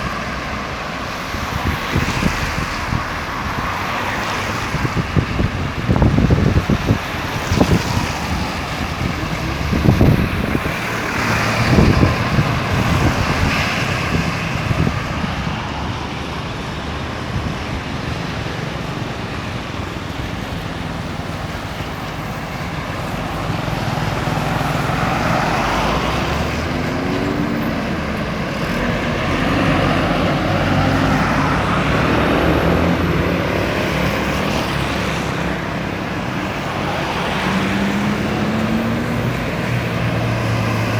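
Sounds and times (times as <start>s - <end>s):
highway traffic noise: 0.0s - 40.9s.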